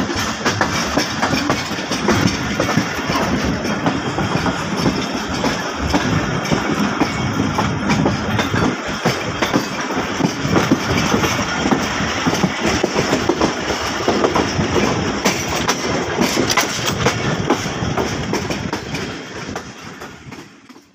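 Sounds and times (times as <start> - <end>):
train rumble: 0.0 - 20.9
wheels clattering over rail joints: 0.0 - 20.9.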